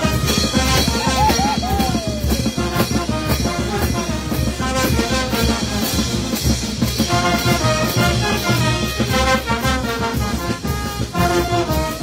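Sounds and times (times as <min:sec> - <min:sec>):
brass band playing: 0:00.0 - 0:12.0
steady drum beat: 0:00.0 - 0:12.0.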